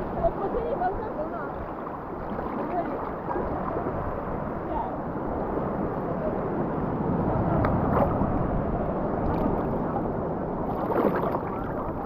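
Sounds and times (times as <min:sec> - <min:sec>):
sea water washing and splashing: 0:00.2 - 0:05.6, 0:07.2 - 0:12.0.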